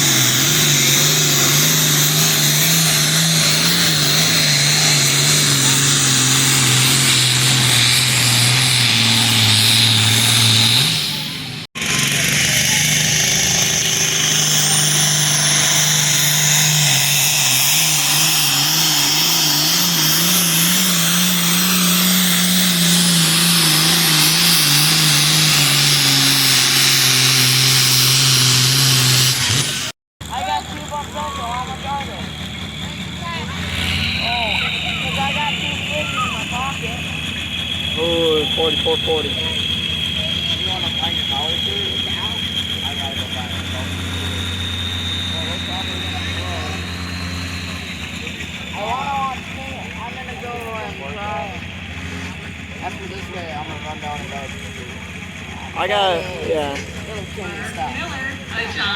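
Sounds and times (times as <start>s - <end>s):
diesel engine revving under load: 0.0s - 58.9s.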